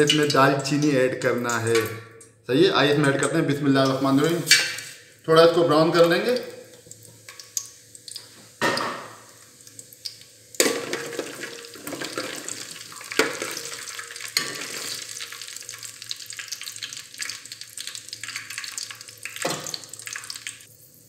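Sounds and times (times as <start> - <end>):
spices sizzling in hot oil: 3.8 - 21.0.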